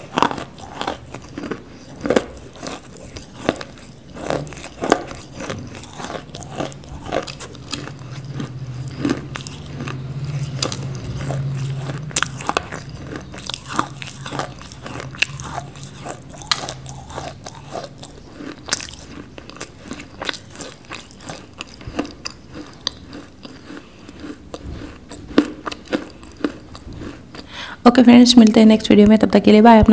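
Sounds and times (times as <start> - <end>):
clay being chewed with crunches: 0.0 - 27.6.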